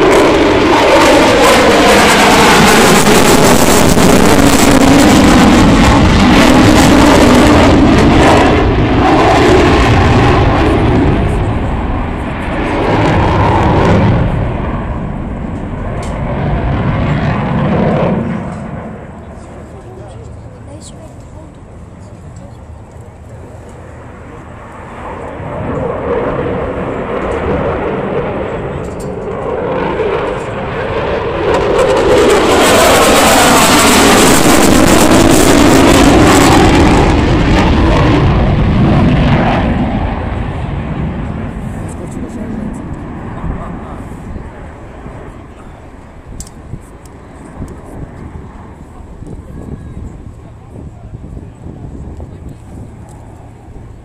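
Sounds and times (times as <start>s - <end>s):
jet roaring: 0.0s - 54.0s.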